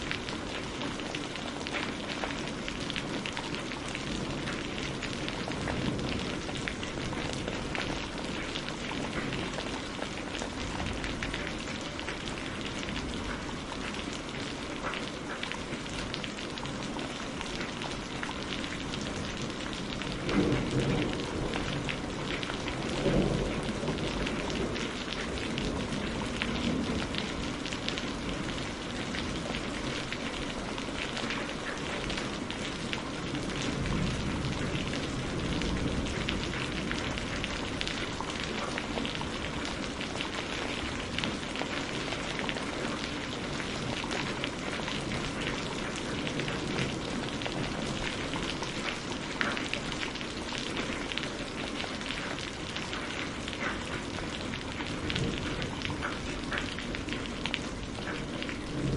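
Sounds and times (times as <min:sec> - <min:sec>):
steady rain pattering: 0:00.0 - 0:58.9.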